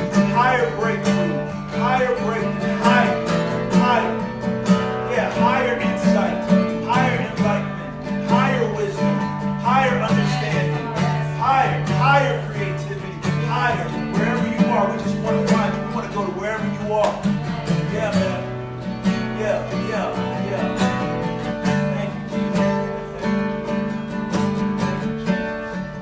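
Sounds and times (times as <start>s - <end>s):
worship music with acoustic guitar: 0.0s - 26.0s.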